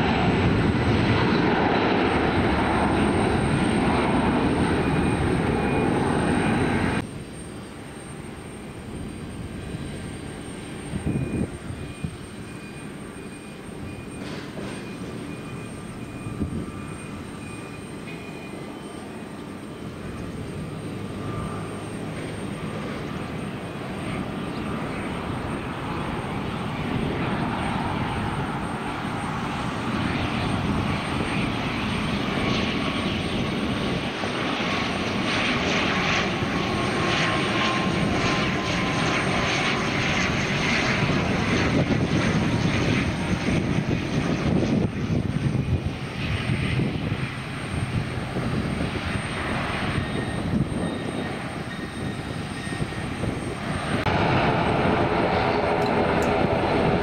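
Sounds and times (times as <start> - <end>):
aircraft engines passing: 0.0 - 57.0.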